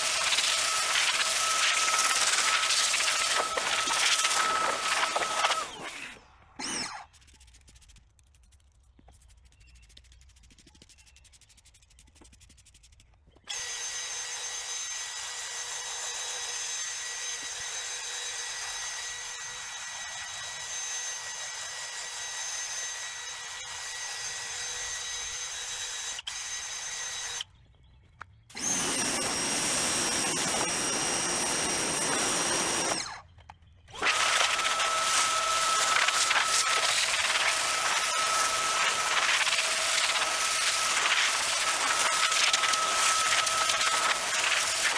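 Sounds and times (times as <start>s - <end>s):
cleaning tool motor whining: 0.0s - 7.4s, 13.5s - 27.5s, 28.5s - 44.9s.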